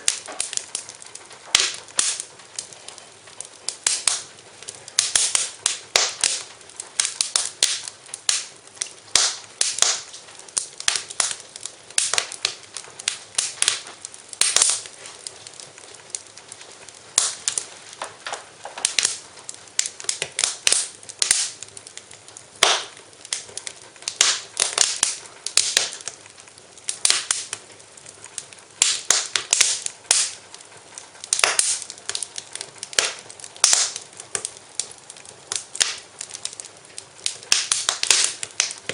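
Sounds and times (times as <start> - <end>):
faint steady hiss: 0.0 - 38.9
fire popping and snapping: 0.0 - 38.9
wood fire crackling: 0.0 - 38.9.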